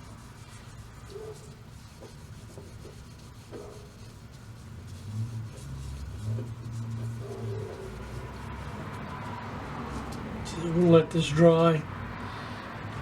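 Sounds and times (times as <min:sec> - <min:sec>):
cloth rubbing wood: 0:00.0 - 0:11.5.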